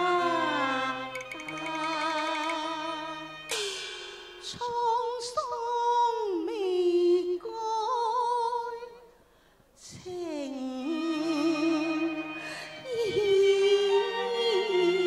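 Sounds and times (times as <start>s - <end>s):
woman singing opera into microphone: 0.0s - 3.2s, 4.5s - 9.0s, 9.8s - 15.0s.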